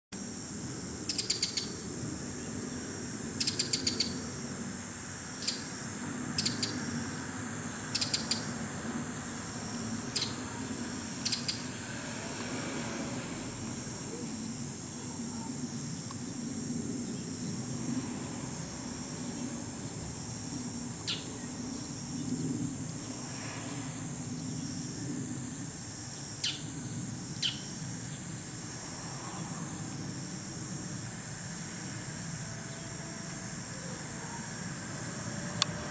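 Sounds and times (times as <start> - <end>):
high-pitched insect buzz: 0.2 - 35.9.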